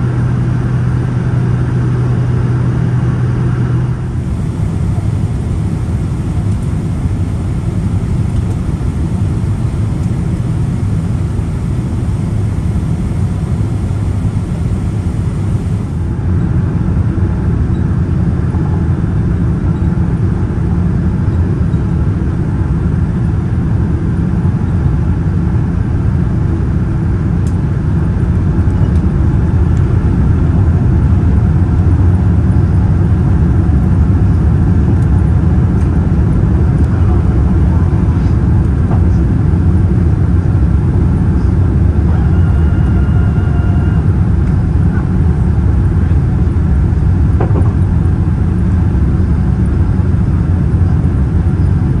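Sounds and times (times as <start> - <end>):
airplane engines rumbling in cabin: 0.0 - 52.0.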